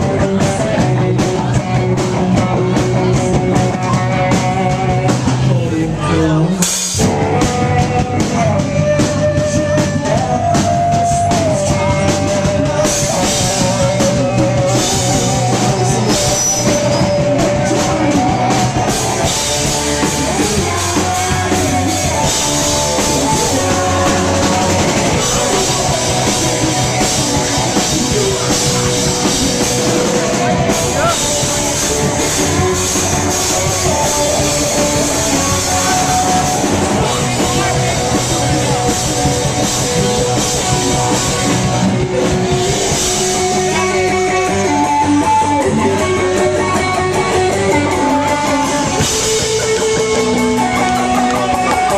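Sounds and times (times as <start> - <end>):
rock band playing live: 0.0 - 51.9
sliding lead melody: 0.0 - 51.9.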